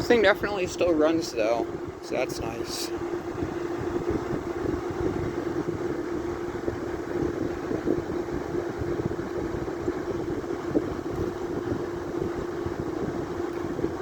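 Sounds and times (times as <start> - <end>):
air conditioner compressor hum: 0.0 - 14.0
fan rushing noise: 0.0 - 14.0.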